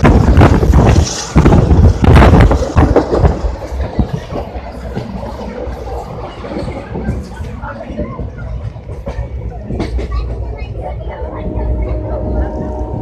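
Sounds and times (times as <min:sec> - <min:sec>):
train coach rumbling on rails: 0:00.0 - 0:13.0.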